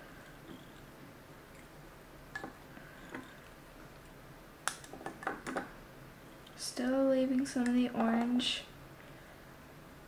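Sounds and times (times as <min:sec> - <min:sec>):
low room noise: 0:00.0 - 0:10.0.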